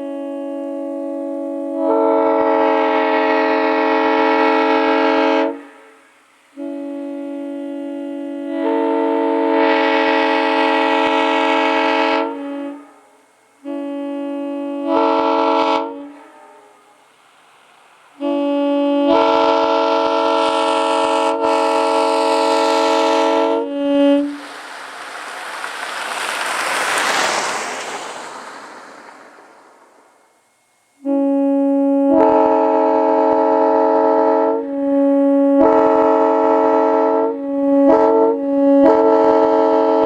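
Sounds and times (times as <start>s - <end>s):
locomotive air horn blasts: 0.0s - 30.2s, 31.0s - 40.0s.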